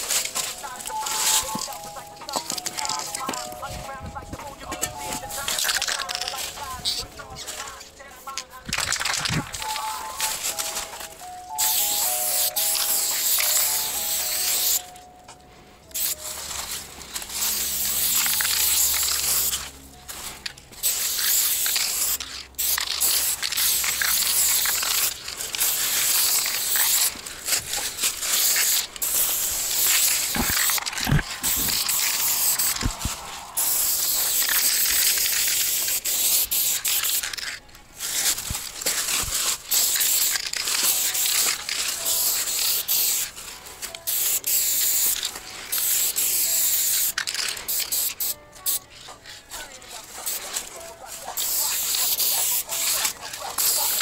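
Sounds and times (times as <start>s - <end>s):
spray can hissing: 0.0s - 3.7s, 4.9s - 15.0s, 15.9s - 54.0s.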